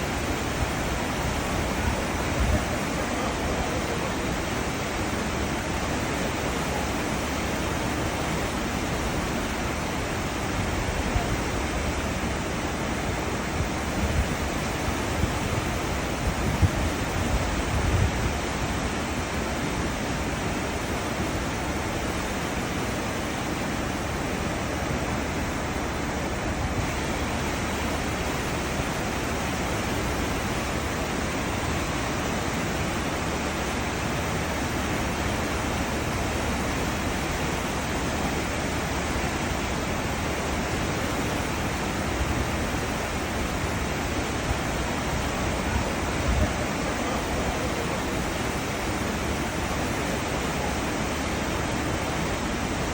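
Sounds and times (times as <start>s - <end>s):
foaming water rushing: 0.0s - 52.9s.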